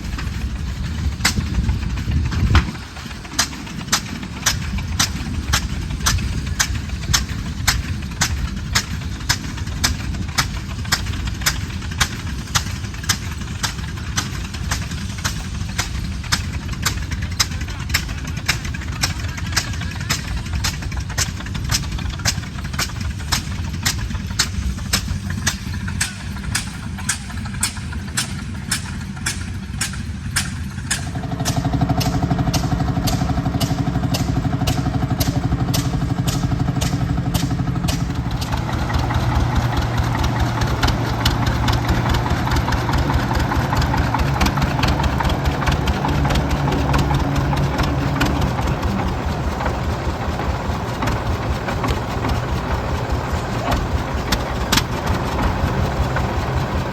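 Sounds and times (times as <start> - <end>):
louder engine droning: 0.0 - 56.9
tractor engines running: 0.0 - 56.9.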